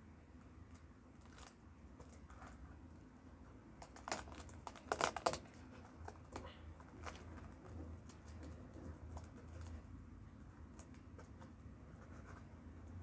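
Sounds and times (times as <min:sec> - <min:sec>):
crinkling and rustling materials: 0:00.3 - 0:13.0.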